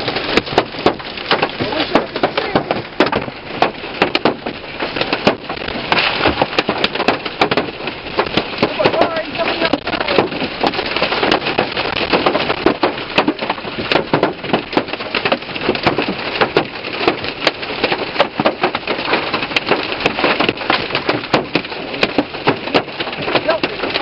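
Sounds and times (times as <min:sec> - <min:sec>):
hailstones knocking on car: 0:00.0 - 0:24.0
steady hiss of rain: 0:00.0 - 0:24.0.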